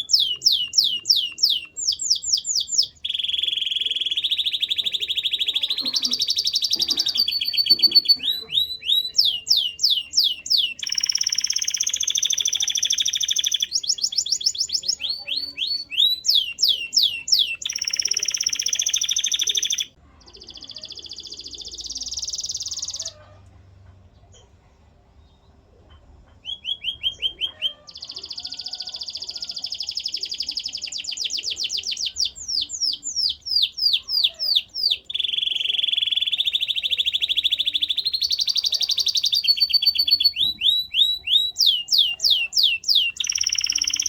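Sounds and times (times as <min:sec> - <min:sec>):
canary singing: 0:00.0 - 0:23.4, 0:26.3 - 0:44.0.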